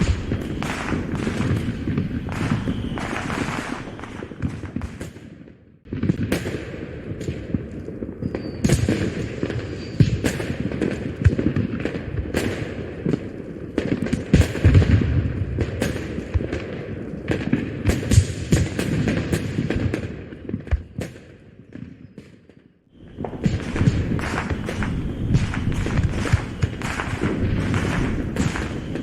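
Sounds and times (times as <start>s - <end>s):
fireworks booming and crackling: 0.0s - 29.0s.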